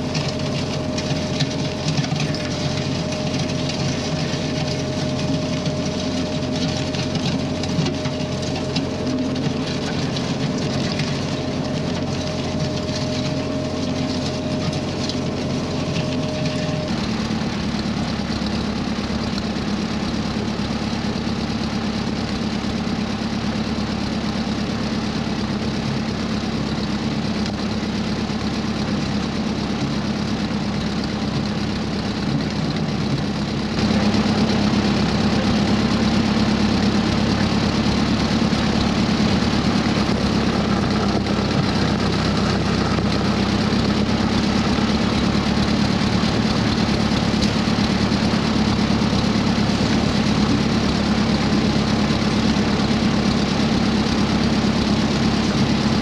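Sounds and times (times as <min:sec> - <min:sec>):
gravel crunching under blade: 0:00.0 - 0:20.9, 0:28.9 - 0:56.0
tractor engine running: 0:00.0 - 0:56.0.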